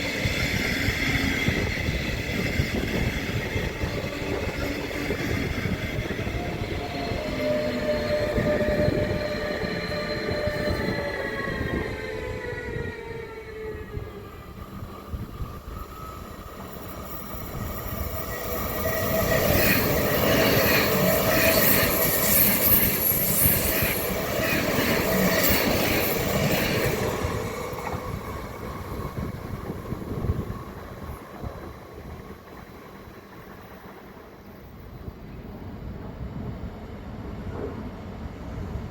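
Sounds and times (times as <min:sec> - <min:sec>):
train passing on tracks: 0:00.0 - 0:38.9.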